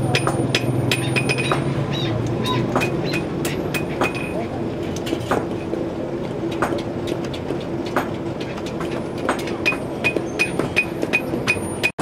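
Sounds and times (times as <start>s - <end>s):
hammer tapping on metal: 0.0s - 5.6s, 6.5s - 12.0s
steady machine hum: 0.0s - 12.0s.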